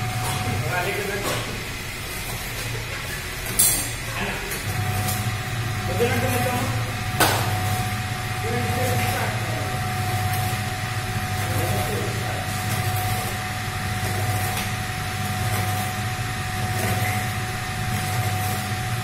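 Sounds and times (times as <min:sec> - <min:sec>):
blender machine hum: 0:00.0 - 0:19.0
thin steady machine whine: 0:00.0 - 0:19.0.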